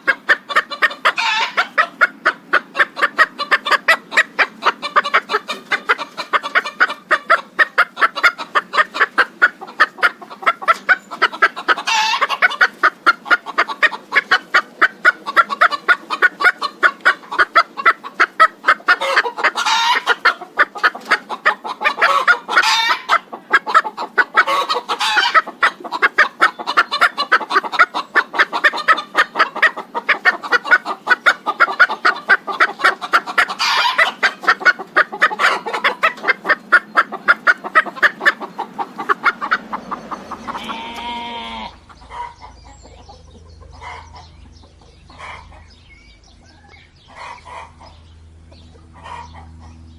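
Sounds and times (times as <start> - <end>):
higher chicken calls: 0.0 - 49.8
chickens clucking: 0.0 - 49.9.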